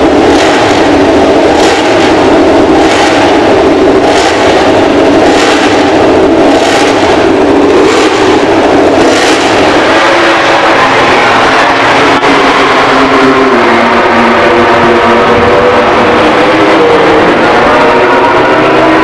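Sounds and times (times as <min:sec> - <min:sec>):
racing motorcycle engine revving: 0:00.0 - 0:19.0.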